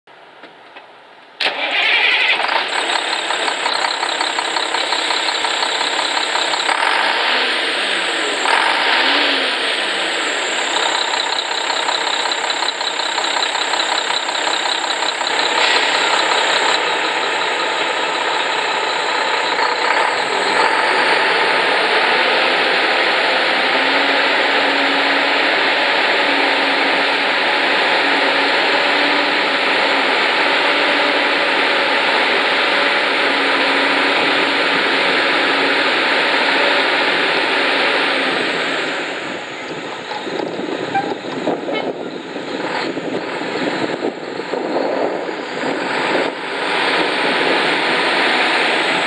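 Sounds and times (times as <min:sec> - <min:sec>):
diesel truck engine running: 0:01.4 - 0:49.0.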